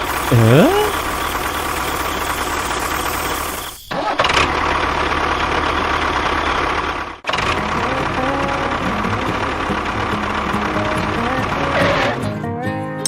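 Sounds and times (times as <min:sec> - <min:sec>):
small engine running: 0:00.0 - 0:12.3.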